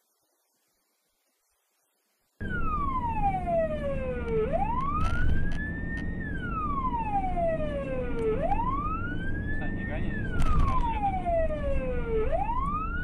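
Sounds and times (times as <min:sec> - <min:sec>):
emergency siren wailing: 0:02.4 - 0:13.0
low engine rumble: 0:02.4 - 0:13.0.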